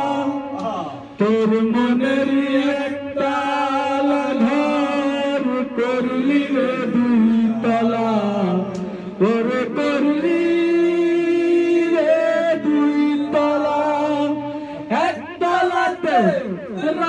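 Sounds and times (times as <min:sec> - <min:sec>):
lead voice on microphone: 0:00.0 - 0:17.0
men singing together: 0:00.0 - 0:17.0.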